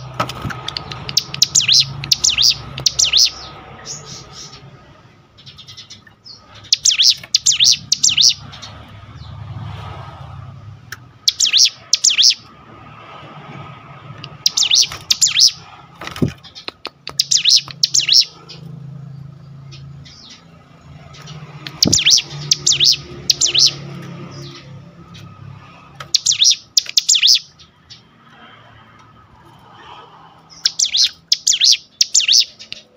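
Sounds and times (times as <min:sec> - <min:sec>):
bird chirping song: 0:00.0 - 0:09.8, 0:11.2 - 0:12.5, 0:14.2 - 0:28.2, 0:30.5 - 0:32.9.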